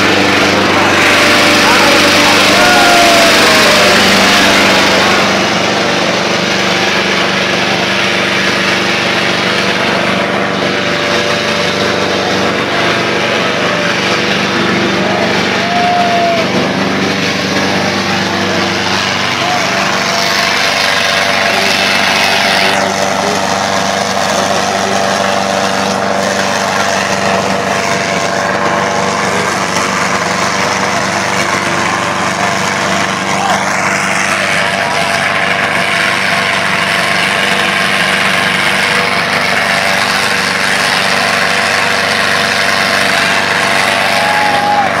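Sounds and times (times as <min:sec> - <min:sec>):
crowd voices: 0:00.0 - 0:45.0
tractor diesel engine under load: 0:00.0 - 0:45.0.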